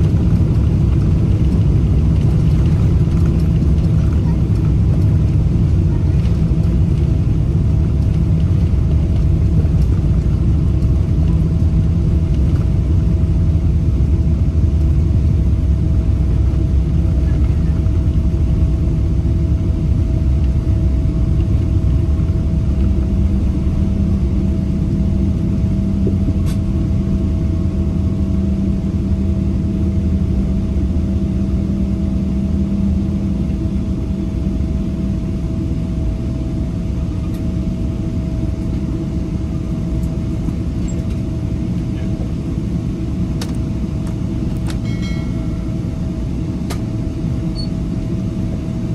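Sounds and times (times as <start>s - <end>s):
airplane cabin engine rumble: 0.0s - 48.9s
faint constant whine: 0.0s - 48.9s
low hum: 0.0s - 48.9s.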